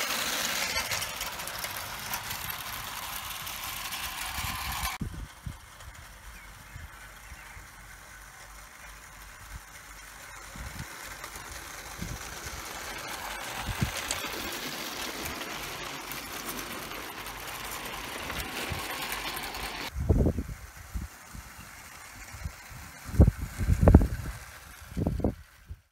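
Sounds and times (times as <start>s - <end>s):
model train running rattle: 0.0s - 25.9s.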